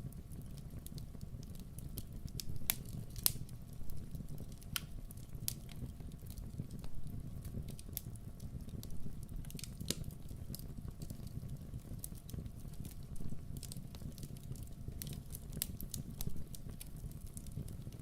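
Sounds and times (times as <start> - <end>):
low rumble of flame: 0.0 - 18.0
wood crackling and popping: 0.0 - 18.0.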